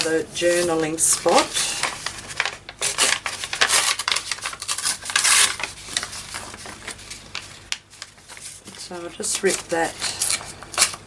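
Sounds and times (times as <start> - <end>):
paper rustling and crackling: 0.0 - 11.0.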